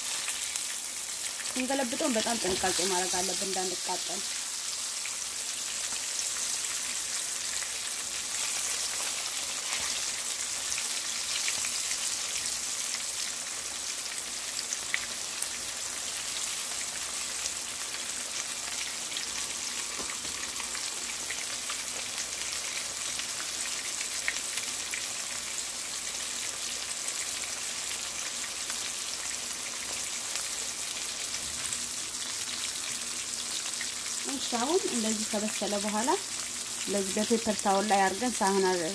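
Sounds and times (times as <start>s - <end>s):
fish frying in hot oil: 0.0s - 38.9s
oil crackling and popping: 4.2s - 35.6s.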